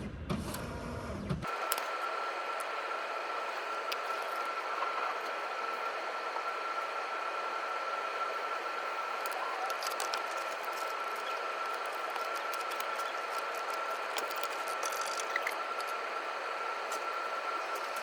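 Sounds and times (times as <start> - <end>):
mechanical whine: 0.0 - 18.0.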